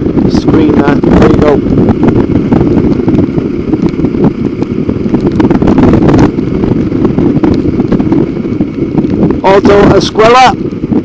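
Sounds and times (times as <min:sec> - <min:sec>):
motorcycle running: 0:00.0 - 0:11.0
wind rumble on microphone: 0:00.0 - 0:11.0.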